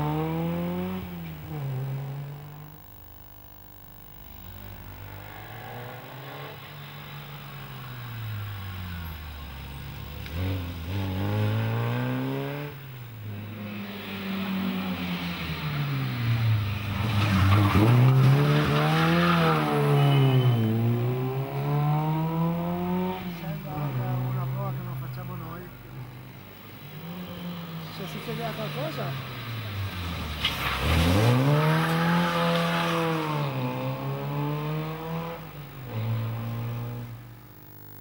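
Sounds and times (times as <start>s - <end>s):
rally car engines revving: 0.0s - 2.8s, 4.2s - 38.0s.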